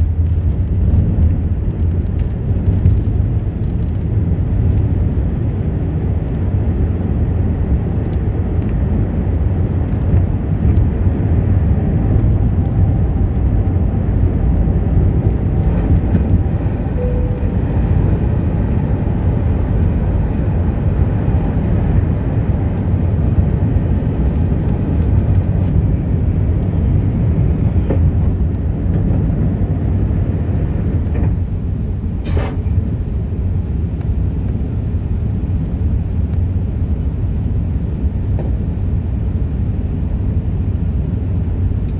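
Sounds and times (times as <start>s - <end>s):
jet engines and airflow rumble: 0.0s - 41.9s.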